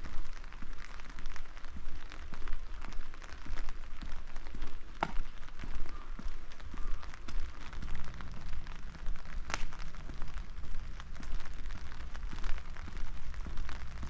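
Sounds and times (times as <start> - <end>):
low rain rumble: 0.0 - 14.0
rain drops ticking: 0.0 - 14.0.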